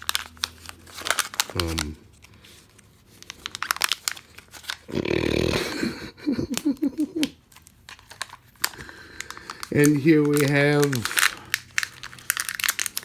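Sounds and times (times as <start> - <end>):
plastic packaging crinkling: 0.0 - 4.9, 6.2 - 13.0.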